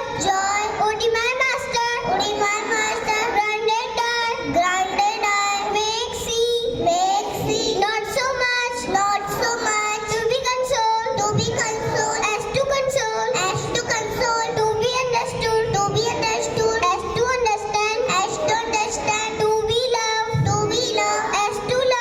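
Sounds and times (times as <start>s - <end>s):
young children singing: 0.0s - 22.0s.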